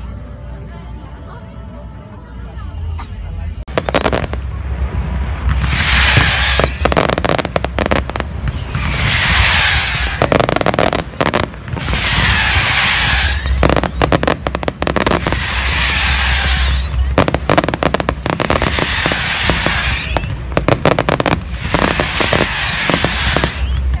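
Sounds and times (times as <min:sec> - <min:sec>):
fireworks hissing crackle: 0:03.7 - 0:24.0.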